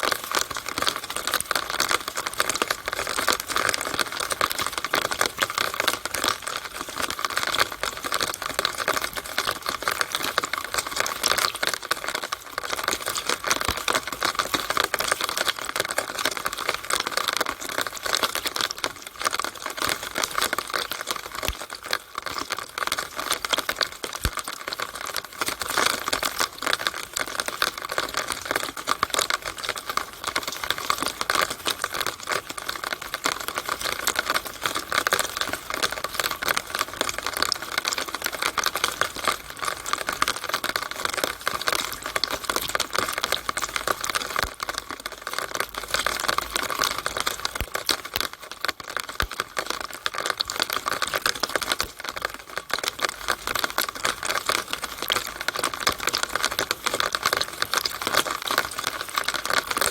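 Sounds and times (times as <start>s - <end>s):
rain drops pattering: 0.0s - 59.9s
water trickling in downspout: 0.0s - 59.9s.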